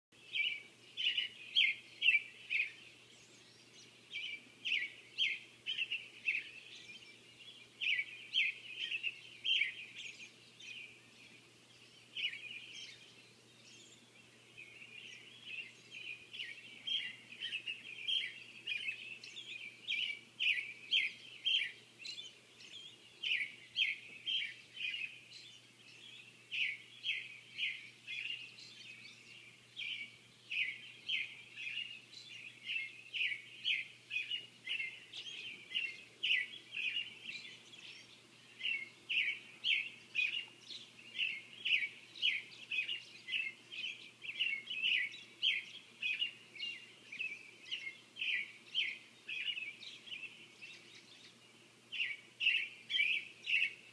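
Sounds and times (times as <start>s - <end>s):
birds chirping: 0.1s - 53.9s.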